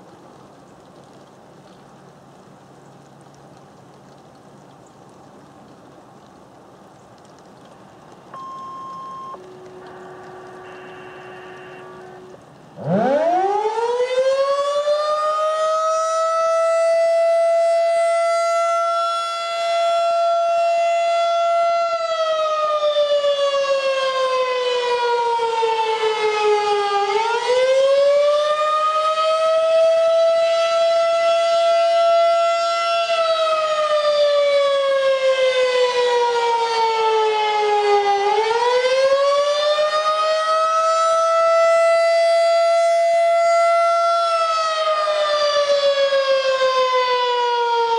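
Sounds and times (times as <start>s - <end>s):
tornado siren wailing: 8.3s - 47.9s.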